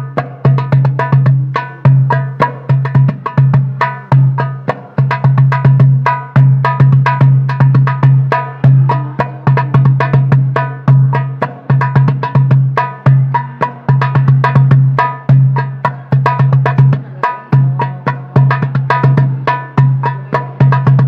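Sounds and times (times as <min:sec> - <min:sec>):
goblet drum played by hand: 0:00.0 - 0:21.0.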